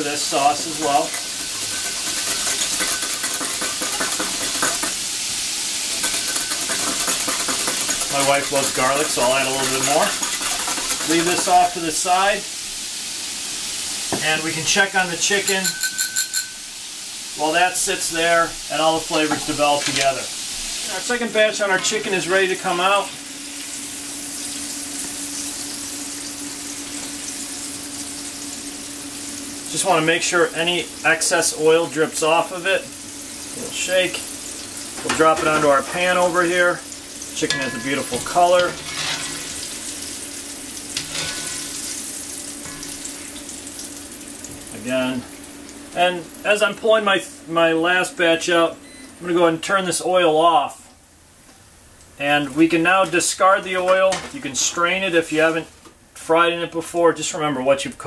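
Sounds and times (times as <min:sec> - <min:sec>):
oil sizzling: 0:00.0 - 0:56.1.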